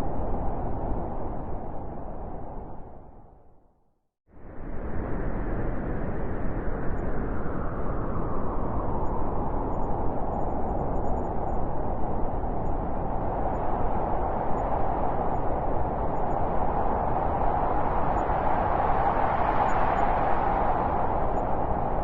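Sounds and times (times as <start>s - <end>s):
blizzard wind howling: 0.0s - 22.0s.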